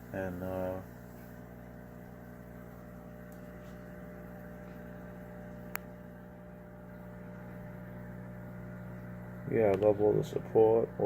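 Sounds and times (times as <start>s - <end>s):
aquarium equipment humming: 0.0s - 11.0s.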